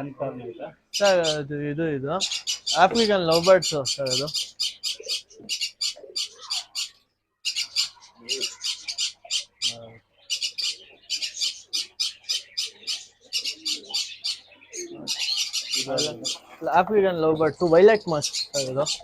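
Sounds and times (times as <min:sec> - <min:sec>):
lovebirds chattering shrilly: 0:00.0 - 0:19.0.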